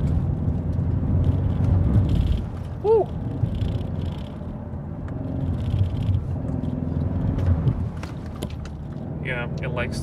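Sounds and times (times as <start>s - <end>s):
car engine drone inside cabin: 0.0s - 10.0s
road noise: 0.0s - 10.0s.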